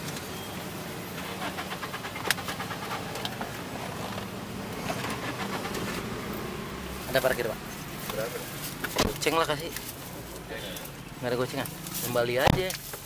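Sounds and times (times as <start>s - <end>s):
car engine running slowly: 0.0s - 13.0s.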